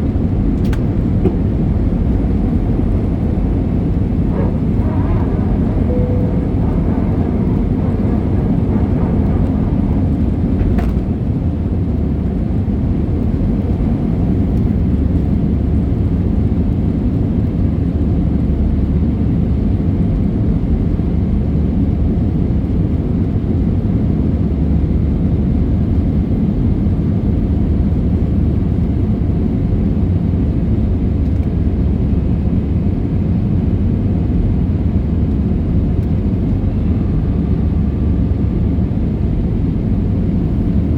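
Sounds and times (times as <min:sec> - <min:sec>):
jet cabin engine roar: 0:00.0 - 0:40.9.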